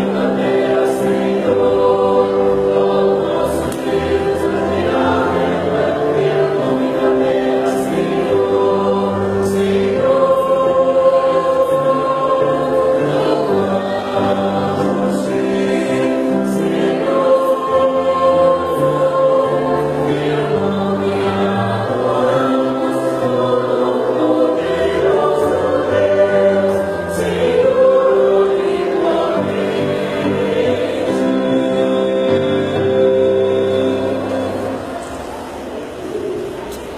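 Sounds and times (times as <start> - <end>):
choir singing worship song: 0.0 - 36.5.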